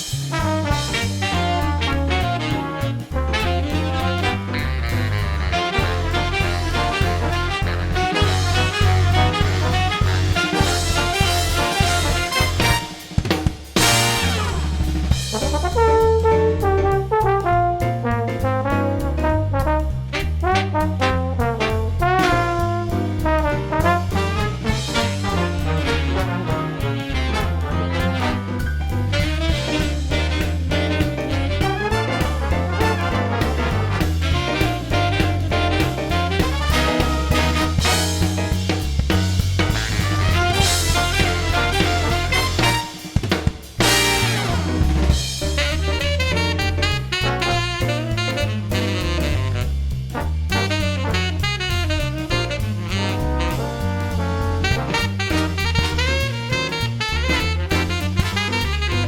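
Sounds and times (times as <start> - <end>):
swing music with brass: 0.0 - 59.0.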